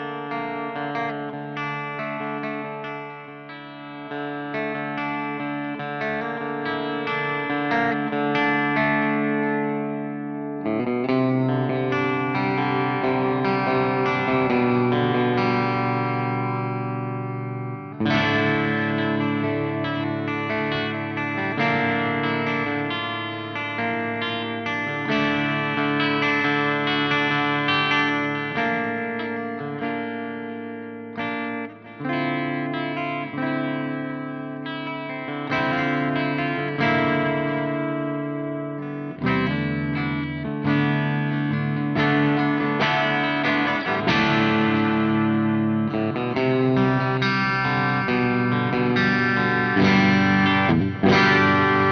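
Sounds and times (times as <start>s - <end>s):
distorted electric guitar chords: 0.0s - 51.9s.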